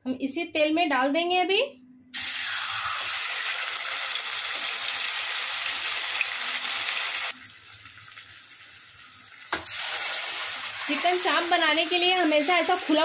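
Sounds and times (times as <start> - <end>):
chicken sizzling in oil: 2.2 - 13.0.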